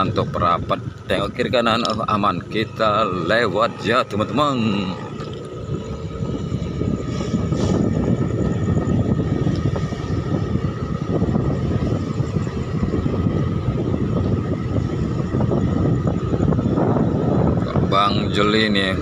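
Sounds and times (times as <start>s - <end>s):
wind and road noise: 0.0s - 19.0s
motorbike engine running: 1.8s - 17.6s.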